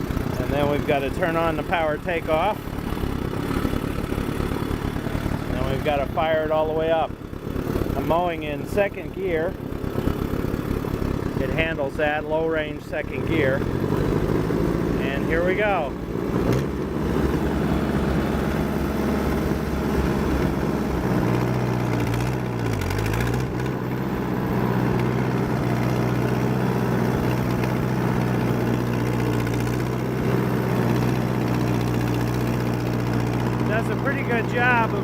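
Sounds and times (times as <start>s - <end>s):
rotary cutter mowing grass: 0.0s - 35.0s
tractor engine under load: 0.0s - 35.0s.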